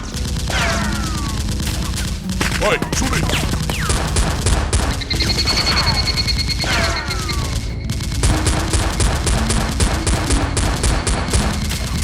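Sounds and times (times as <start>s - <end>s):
rapid gunfire: 0.0s - 12.0s.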